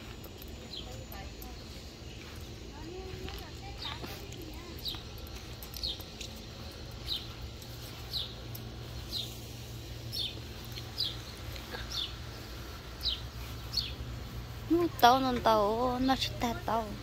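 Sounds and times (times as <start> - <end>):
bird chirping: 0.0 - 16.7
steady low hum: 0.0 - 17.0.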